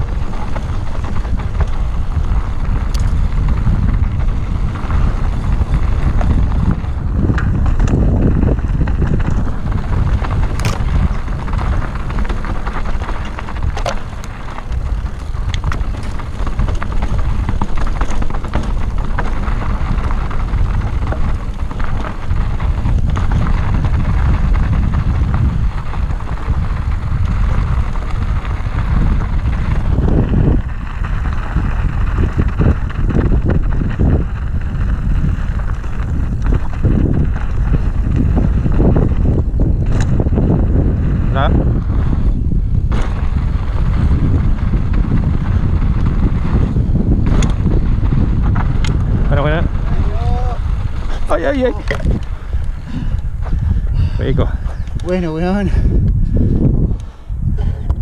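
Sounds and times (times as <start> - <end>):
bike wheels knocking on bumps: 0.0 - 58.0
mountain bike rattling: 0.0 - 58.0
wind on microphone: 0.0 - 58.0.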